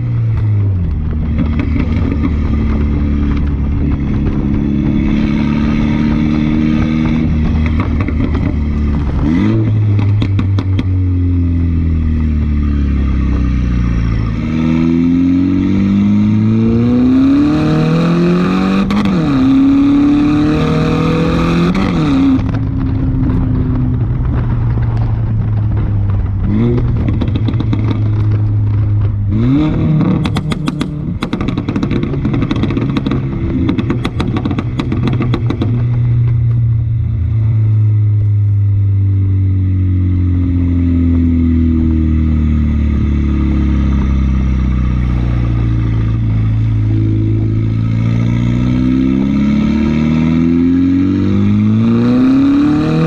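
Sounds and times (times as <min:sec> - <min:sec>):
exhaust crackles: 0:00.0 - 0:17.4, 0:18.0 - 0:53.0
loud car engine revving: 0:00.0 - 0:53.0.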